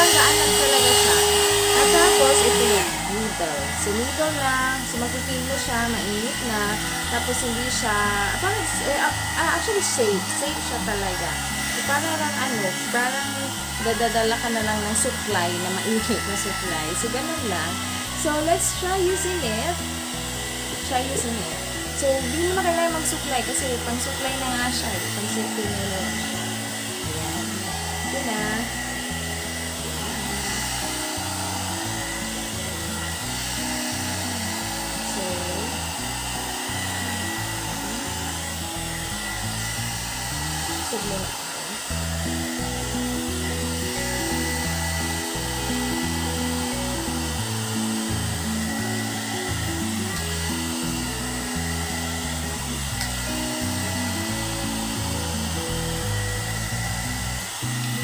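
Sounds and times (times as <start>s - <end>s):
hot air brush blowing: 0.0s - 58.0s
upbeat background music: 0.0s - 58.0s.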